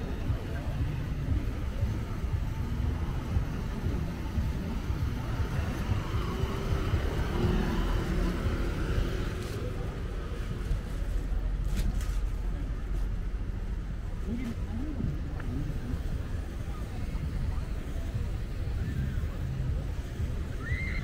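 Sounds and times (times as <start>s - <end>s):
distant traffic: 0.0s - 21.0s
faint voices: 0.0s - 21.0s.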